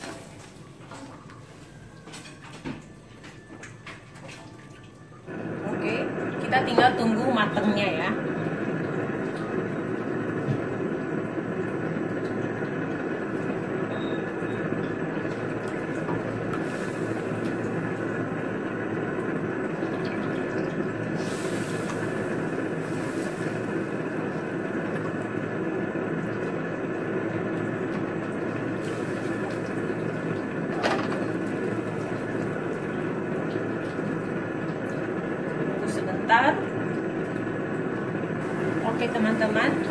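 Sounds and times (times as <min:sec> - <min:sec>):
food simmering bubbling hiss: 0:05.0 - 0:39.9.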